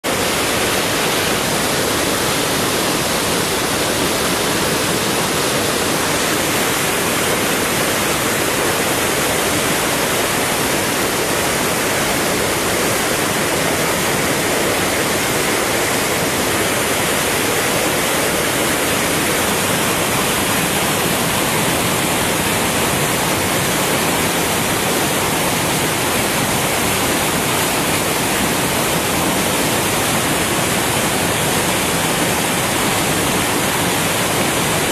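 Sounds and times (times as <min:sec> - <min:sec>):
river rapids rushing: 0:00.0 - 0:34.9.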